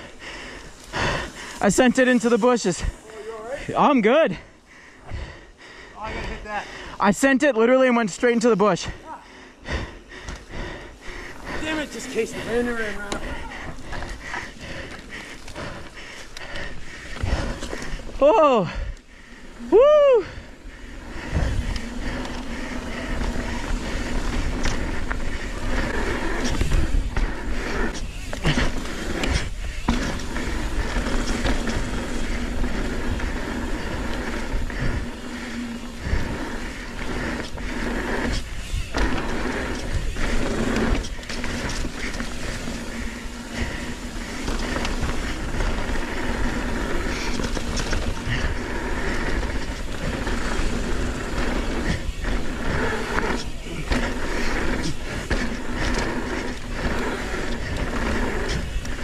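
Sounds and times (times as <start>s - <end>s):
tyres rumbling on dirt: 0.0s - 5.4s, 9.7s - 59.0s
bike knocking and rattling: 9.0s - 59.0s.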